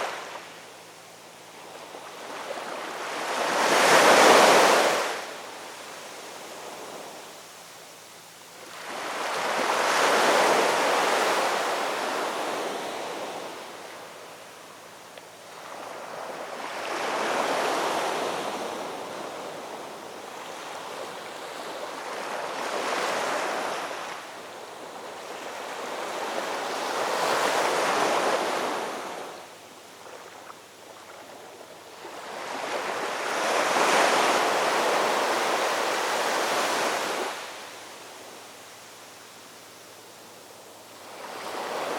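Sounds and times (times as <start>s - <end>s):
ocean waves breaking on shore: 0.0s - 0.6s, 1.4s - 7.3s, 8.6s - 14.4s, 15.4s - 38.4s, 40.9s - 41.9s.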